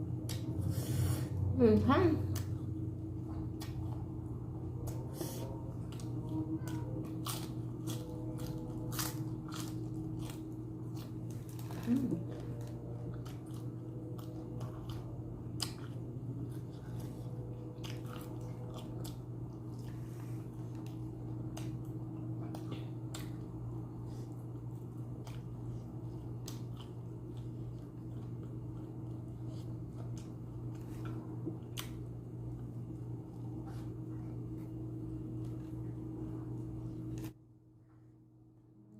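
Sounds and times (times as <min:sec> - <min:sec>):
steady low hum: 0:00.0 - 0:38.9
person chewing food: 0:02.3 - 0:37.4.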